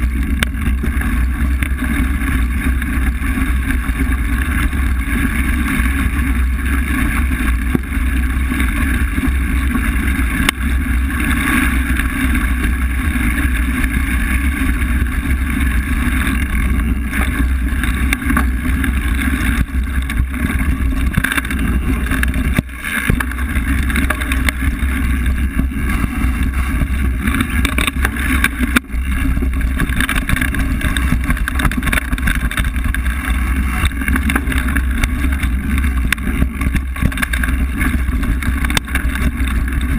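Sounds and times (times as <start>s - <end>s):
bike tyres on gravel: 0.0s - 39.9s
wind roaring over microphone: 0.0s - 39.9s.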